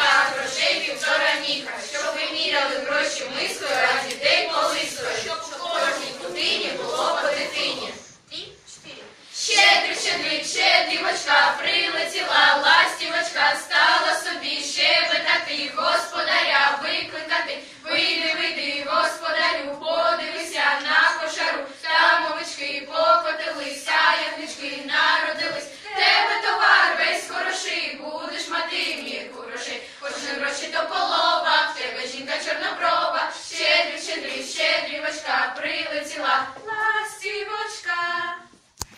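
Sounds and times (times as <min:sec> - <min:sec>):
children singing a carol: 0:00.0 - 0:08.1, 0:09.4 - 0:38.5.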